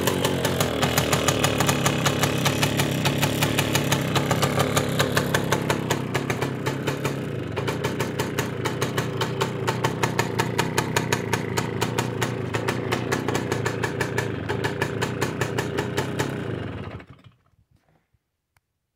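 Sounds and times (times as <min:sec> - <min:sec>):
moped engine idling: 0:00.0 - 0:17.4.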